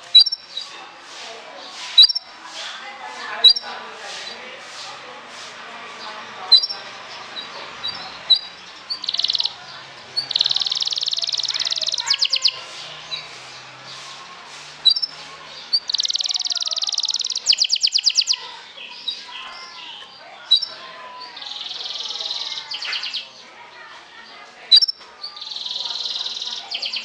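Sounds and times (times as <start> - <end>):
canary singing trills: 0.0 - 0.9, 1.6 - 23.5, 24.2 - 27.0.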